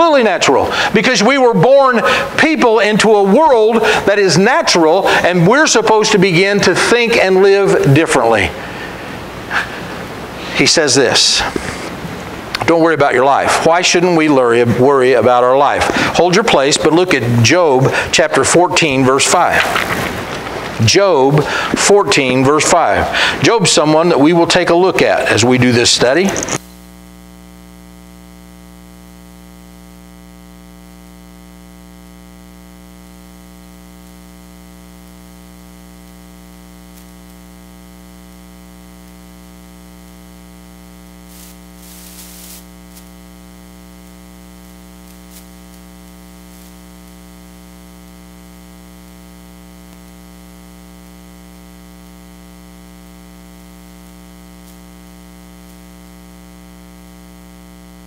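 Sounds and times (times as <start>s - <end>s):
mains hum and buzz: 0.0s - 58.0s
static hiss: 0.0s - 58.0s.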